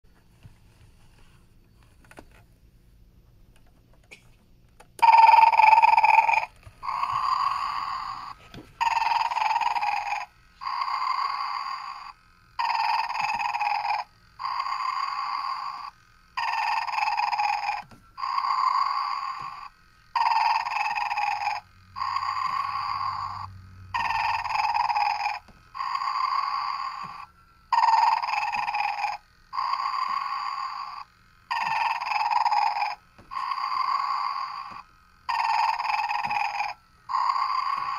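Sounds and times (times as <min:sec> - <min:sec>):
recorded snoring: 0:05.0 - 0:37.9.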